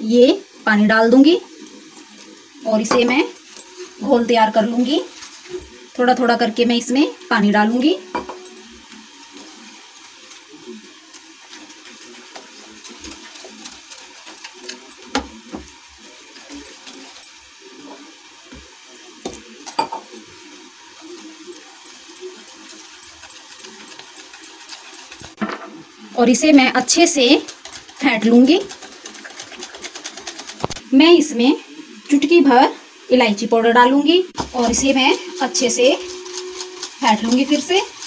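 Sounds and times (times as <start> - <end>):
wet stirring and squishing: 0.9 - 25.4, 26.1 - 30.9, 34.3 - 38.0.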